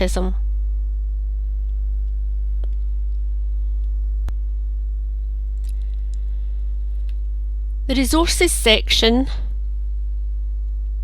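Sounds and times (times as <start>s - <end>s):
electrical hum: 0.0s - 11.0s
faint high buzz: 0.0s - 11.0s.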